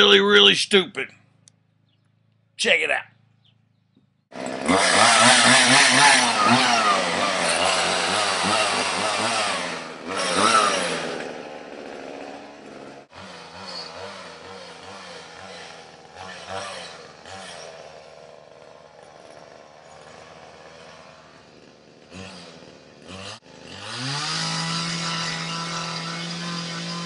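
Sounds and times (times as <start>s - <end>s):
chainsaw running: 4.3s - 27.0s.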